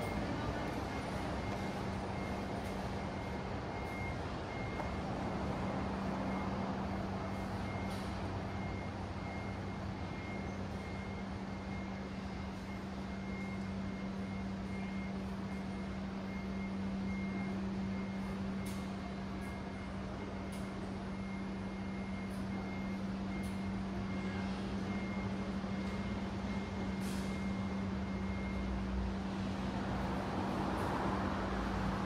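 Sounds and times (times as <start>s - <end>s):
heavy vehicle engine humming: 0.0s - 32.0s
street traffic: 0.0s - 32.0s.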